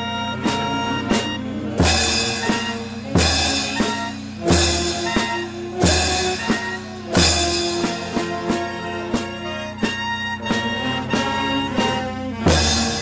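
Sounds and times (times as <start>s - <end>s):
bass drum and crash cymbals: 0.0s - 13.0s
street band playing held notes: 0.0s - 13.0s.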